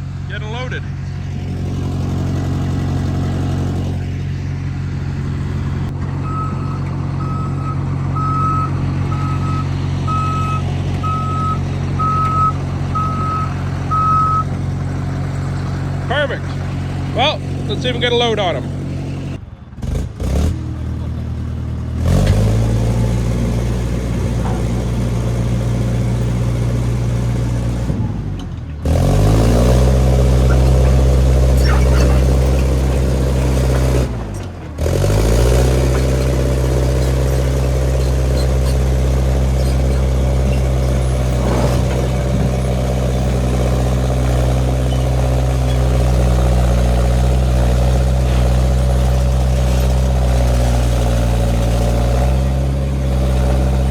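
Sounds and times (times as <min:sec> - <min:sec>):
crawler loader engine running: 0:00.0 - 0:53.9.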